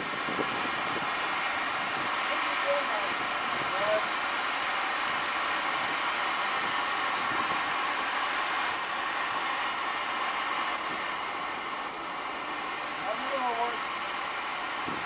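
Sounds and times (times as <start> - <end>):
steam hissing from safety valve: 0.0 - 15.0.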